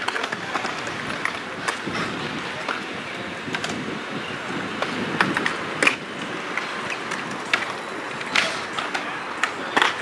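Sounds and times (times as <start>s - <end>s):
skate wheels rolling on concrete: 0.0s - 10.0s
skates clacking on concrete: 0.0s - 10.0s.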